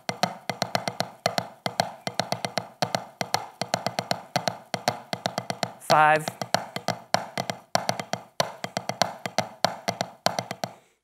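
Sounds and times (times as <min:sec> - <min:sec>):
drumsticks on practice pad: 0:00.0 - 0:10.8.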